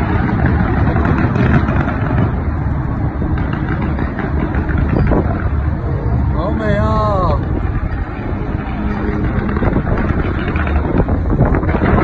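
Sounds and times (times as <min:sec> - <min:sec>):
distant fireworks rumble: 0:00.0 - 0:12.0
faint fireworks crackles: 0:00.0 - 0:12.0.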